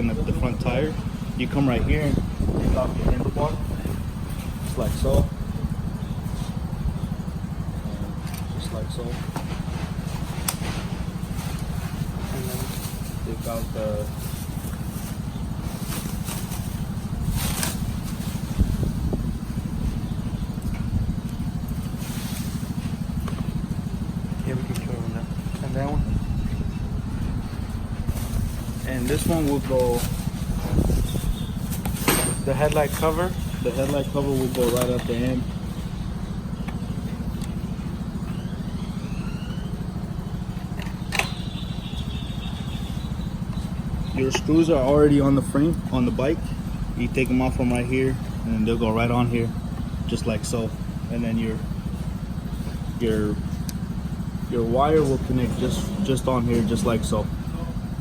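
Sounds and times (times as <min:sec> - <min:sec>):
small engine idling: 0:00.0 - 0:58.0.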